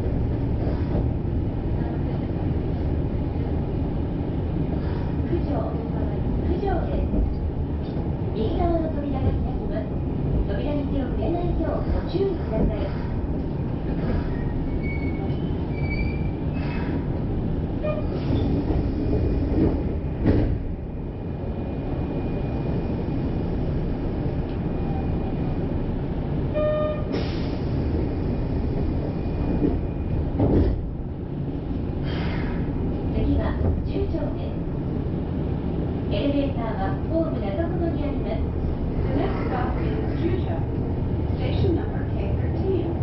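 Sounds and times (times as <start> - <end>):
train car rattling: 0.0 - 43.0
train wheels rumbling on rails: 0.0 - 43.0.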